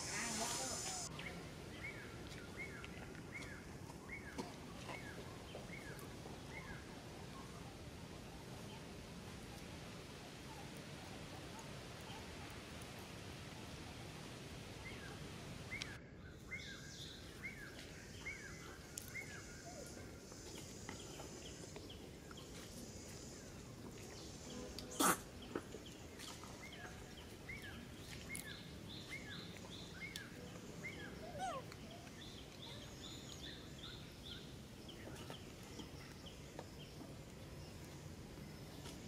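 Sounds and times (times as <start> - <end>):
steady background hiss: 0.0 - 4.2, 5.7 - 39.0
small birds chirping: 0.0 - 39.0.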